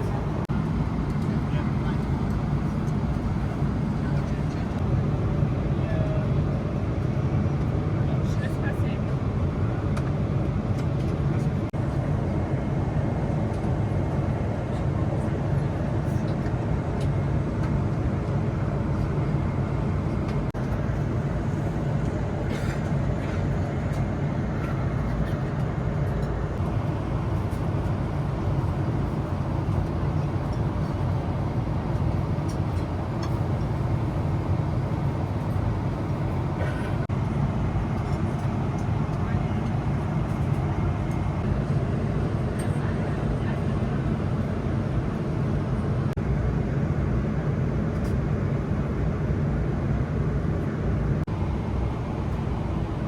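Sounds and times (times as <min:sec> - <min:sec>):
aircraft cabin engine roar: 0:00.0 - 0:53.0.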